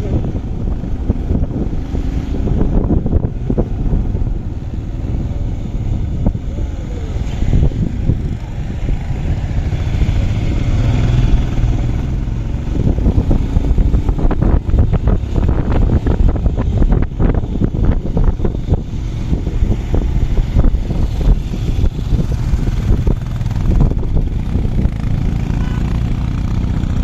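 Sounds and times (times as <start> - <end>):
motorcycle engine rumbling: 0.0 - 27.0.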